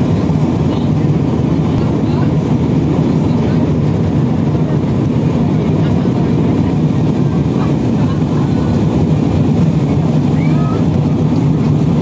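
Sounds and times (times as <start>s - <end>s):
jet engines and airflow rushing: 0.0s - 12.0s.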